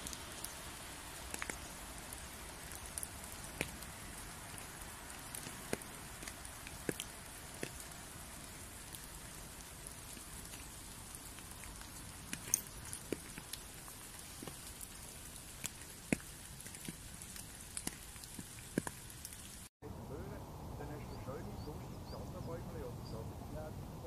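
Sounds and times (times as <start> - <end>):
raindrops ticking: 0.0 - 19.7
light rain hiss: 0.0 - 24.0.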